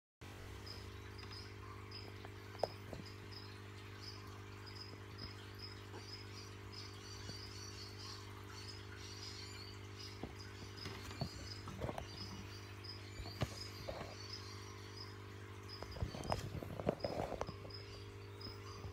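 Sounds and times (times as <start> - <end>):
low electrical hum: 0.2 - 18.9
crickets chirping: 0.4 - 18.9.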